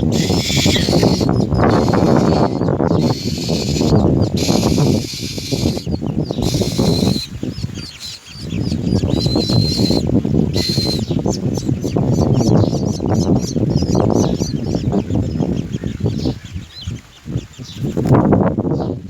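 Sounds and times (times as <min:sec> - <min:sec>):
mynas chirping: 0:00.0 - 0:17.0.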